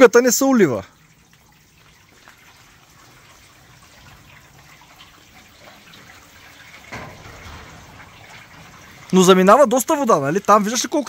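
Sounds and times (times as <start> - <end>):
water trickling in metal gutter: 0.0 - 11.0.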